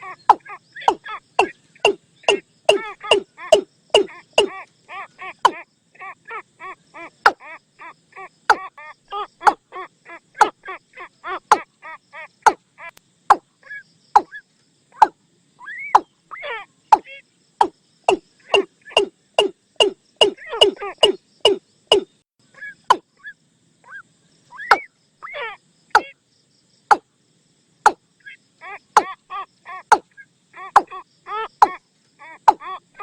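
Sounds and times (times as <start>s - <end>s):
bird calling sharp notes: 0.0s - 5.6s, 6.6s - 10.8s, 11.4s - 11.7s, 13.3s - 26.2s, 28.6s - 33.0s
bird croaking notes: 0.0s - 23.3s, 24.6s - 26.2s, 28.6s - 33.0s.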